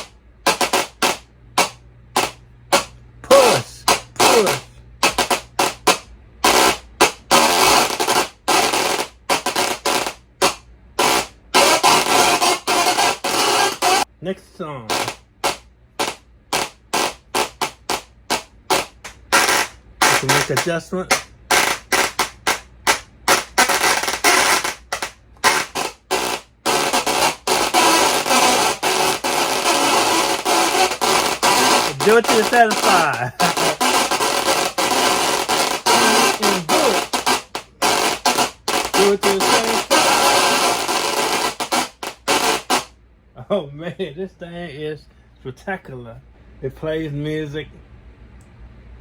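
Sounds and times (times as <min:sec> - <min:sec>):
tesla coil buzzing notes: 0:00.0 - 0:42.9.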